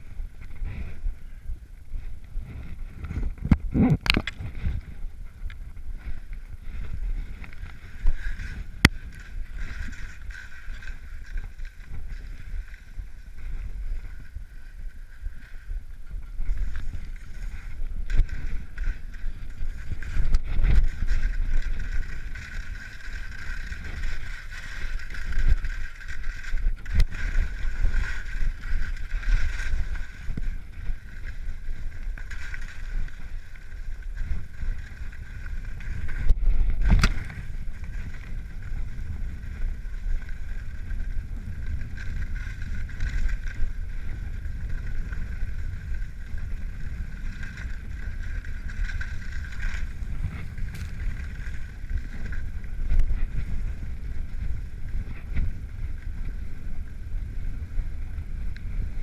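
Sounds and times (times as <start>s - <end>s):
sliding on snow: 0.0s - 59.0s
wind buffeting microphone: 0.0s - 59.0s.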